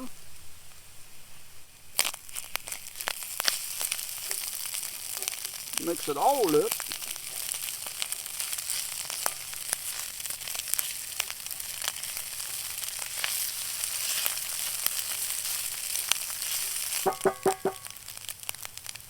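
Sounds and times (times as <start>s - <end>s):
food sizzling in oil: 1.2s - 19.0s.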